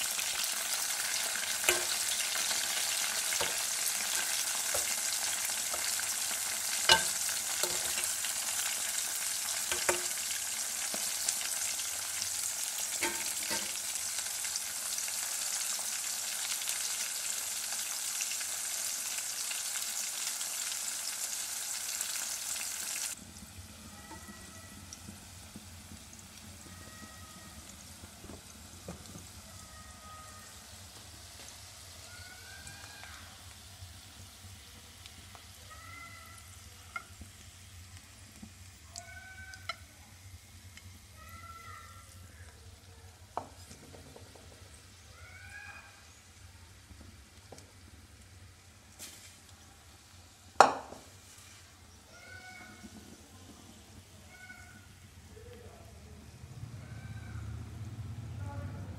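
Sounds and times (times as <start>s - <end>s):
vegetables sizzling in oil: 0.0s - 55.6s.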